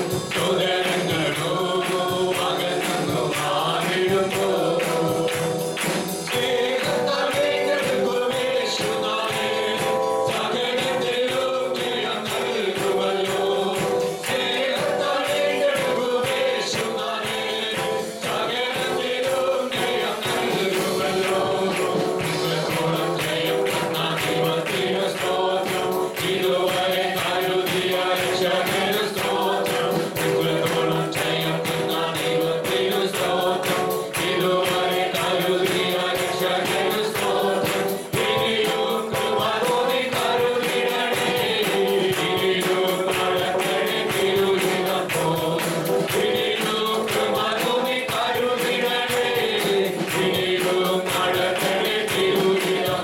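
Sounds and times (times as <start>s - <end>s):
group of voices singing: 0.0s - 53.0s
quick steady percussive beat: 0.0s - 53.0s.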